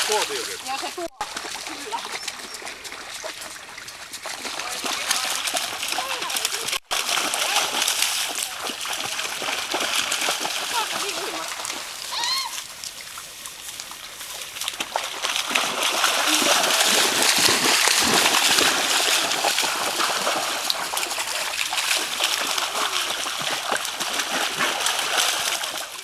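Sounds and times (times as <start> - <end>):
dogs splashing through water: 0.0 - 26.0.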